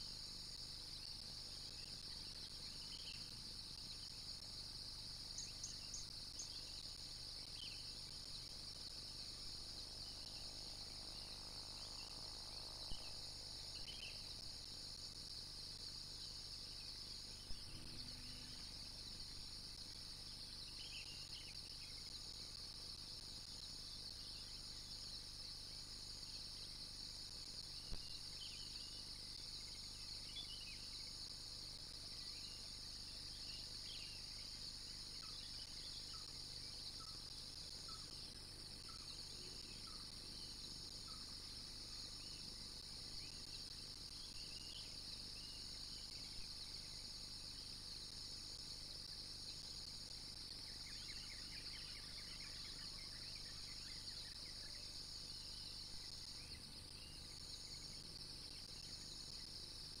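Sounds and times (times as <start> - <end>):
insects chorus: 0.0 - 60.0.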